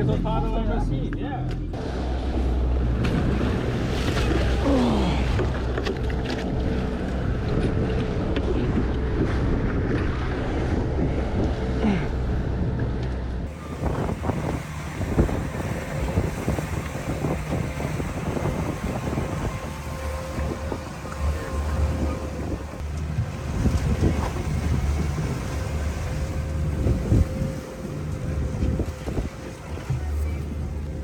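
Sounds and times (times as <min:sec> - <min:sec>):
boat engine running: 0:00.0 - 0:31.0
sea noise: 0:01.7 - 0:31.0
wind buffeting microphone: 0:01.7 - 0:31.0.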